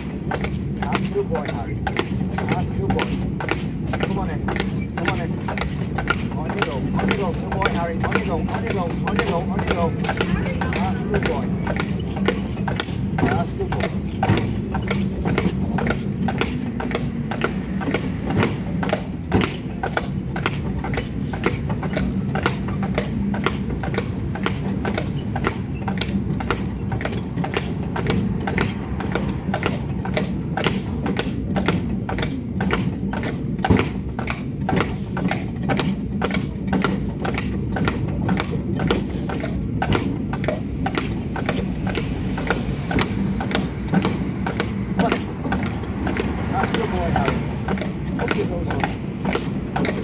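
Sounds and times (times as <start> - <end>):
horse hooves clip-clopping on road: 0.0 - 50.0
tram car rolling on rails: 0.0 - 50.0.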